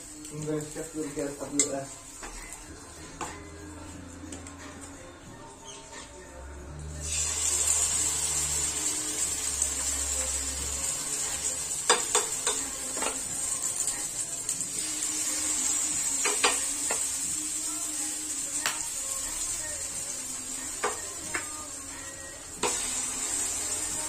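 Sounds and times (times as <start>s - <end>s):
batter sizzling in hot oil: 0.0s - 2.8s, 6.8s - 24.0s.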